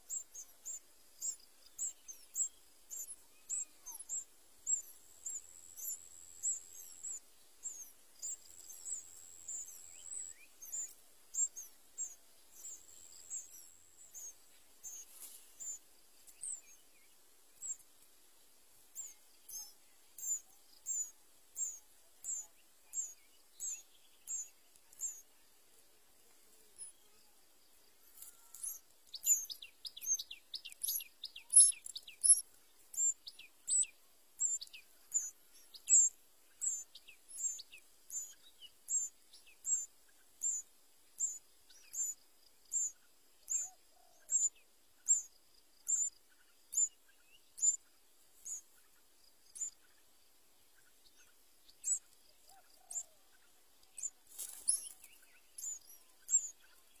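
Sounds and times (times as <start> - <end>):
nestlings begging peeps: 0.0 - 16.7, 17.6 - 17.8, 18.8 - 25.3, 26.4 - 27.2, 28.0 - 40.6, 41.2 - 46.1, 46.7 - 47.8, 48.4 - 48.8, 49.5 - 49.9, 51.2 - 53.2, 54.0 - 56.9.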